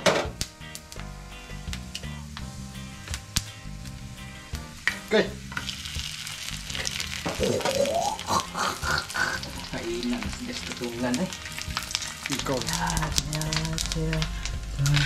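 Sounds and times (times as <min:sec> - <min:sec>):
fish sizzling in hot oil: 0:00.4 - 0:15.0.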